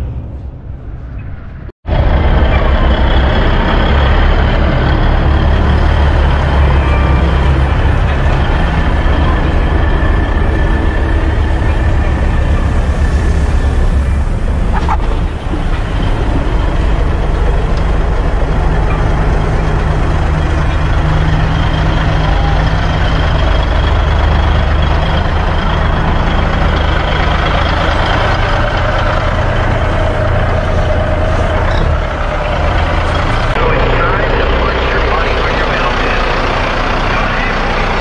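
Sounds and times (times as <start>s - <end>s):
diesel truck engines idling: 1.9s - 38.0s.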